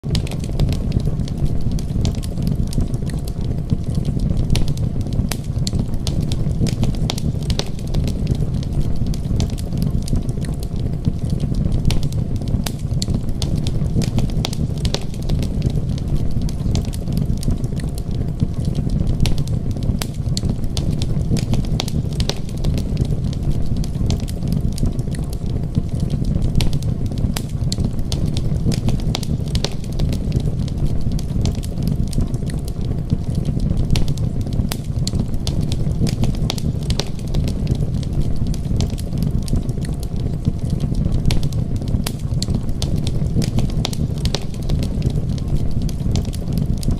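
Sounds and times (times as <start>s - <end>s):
low rumbling noise: 0.0s - 46.9s
sharp crackles and pops: 0.0s - 46.9s.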